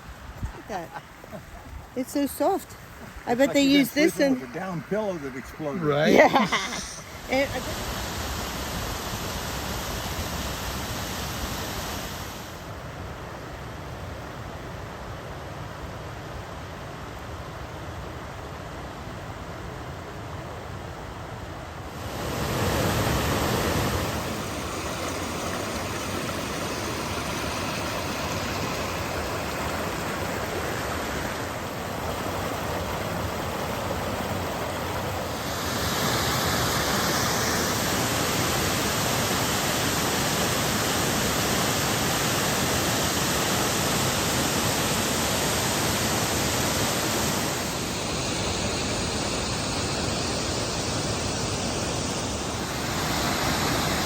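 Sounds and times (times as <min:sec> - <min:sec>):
waterfall rushing: 0:00.0 - 0:12.7, 0:22.0 - 0:54.0.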